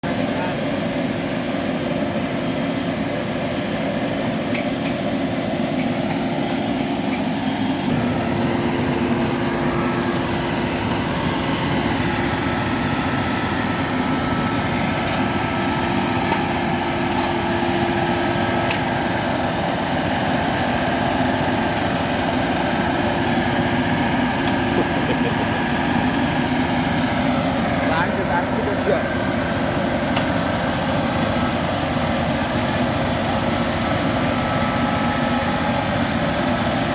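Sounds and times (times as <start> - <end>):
heavy engine droning: 0.0 - 36.9.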